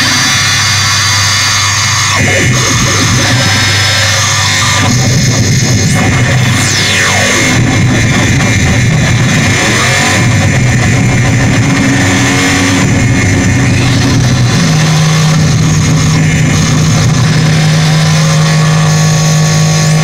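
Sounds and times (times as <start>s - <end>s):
distorted noise music drone: 0.0s - 20.0s
high held tones: 0.0s - 20.0s.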